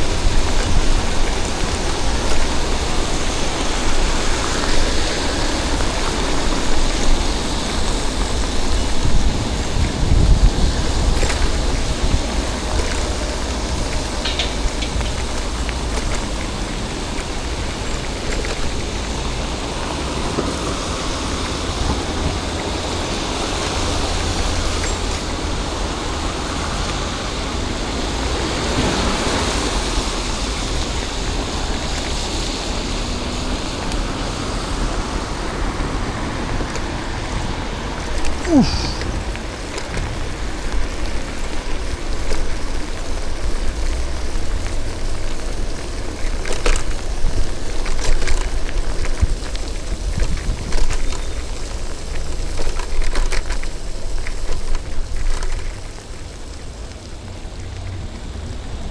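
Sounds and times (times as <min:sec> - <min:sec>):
passing traffic: 0:00.0 - 0:58.9
tyres hissing on wet asphalt: 0:00.0 - 0:58.9.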